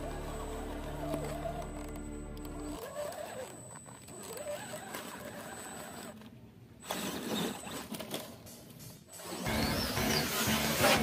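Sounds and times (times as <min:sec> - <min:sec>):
electric motor and gearbox whirring: 0:00.0 - 0:11.0.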